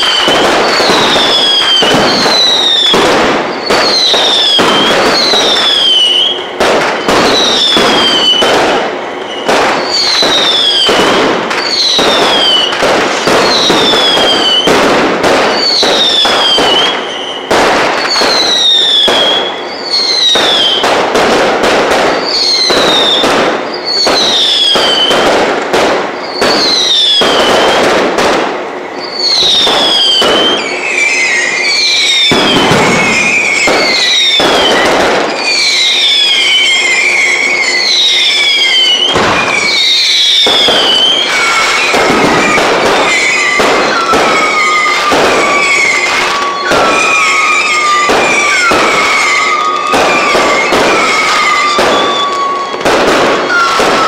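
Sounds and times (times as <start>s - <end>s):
fireworks crackling and banging: 0.0s - 54.0s
whistling fireworks: 0.0s - 54.0s.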